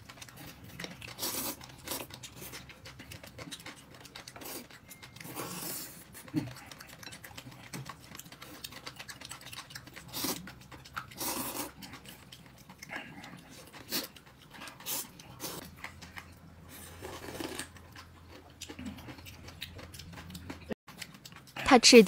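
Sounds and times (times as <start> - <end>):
person chewing: 0.0 - 21.6.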